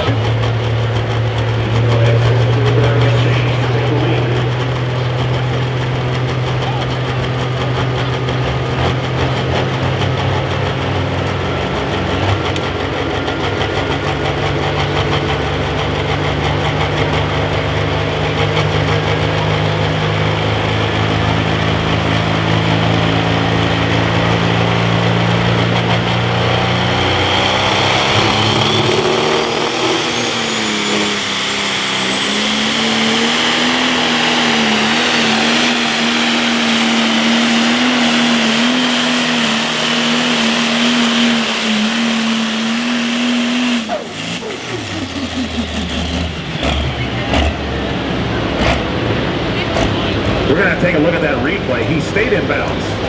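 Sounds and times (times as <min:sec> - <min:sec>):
diesel engine under load: 0:00.0 - 0:53.0
high turbo whine: 0:00.0 - 0:53.0.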